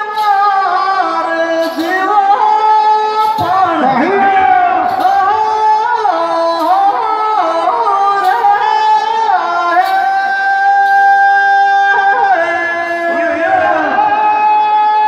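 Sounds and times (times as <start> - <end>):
men singing through pa: 0.0 - 15.0.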